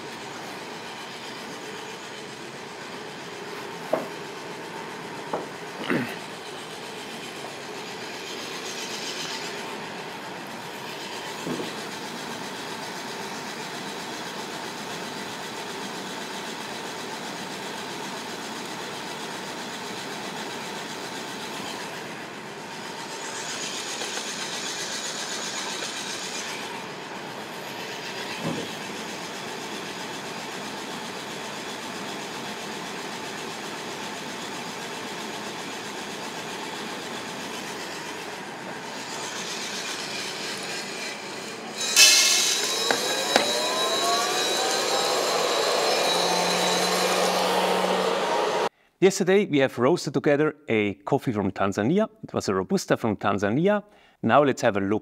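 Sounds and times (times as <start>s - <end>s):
coffee roaster drum and fan: 0.0s - 48.7s.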